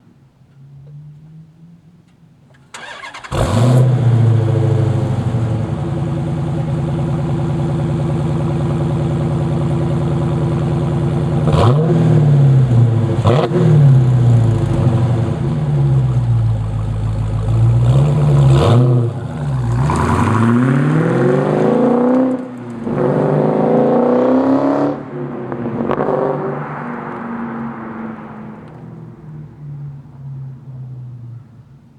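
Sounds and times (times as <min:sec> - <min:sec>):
car engine accelerating: 0:00.5 - 0:31.9.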